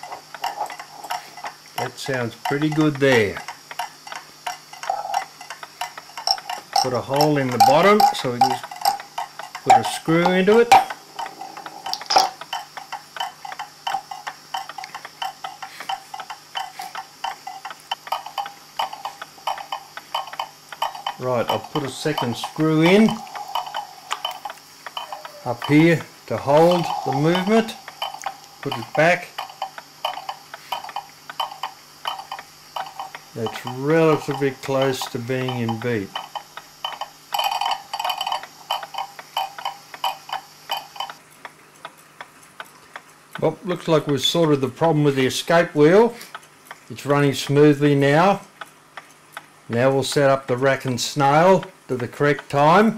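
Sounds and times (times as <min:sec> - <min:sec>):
pendulum clock ticking: 0:00.0 - 0:52.9.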